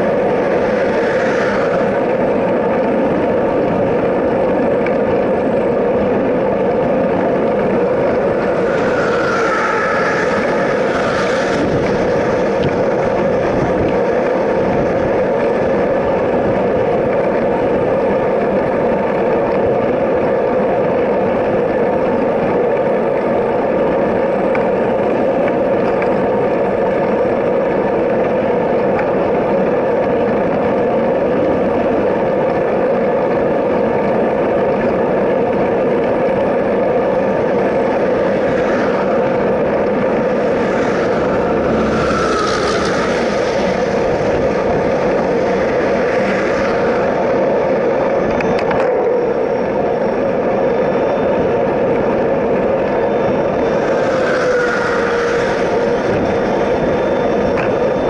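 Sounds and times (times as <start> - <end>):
freight train rolling rumble: 0.0 - 58.0
wind noise on camera: 0.0 - 58.0.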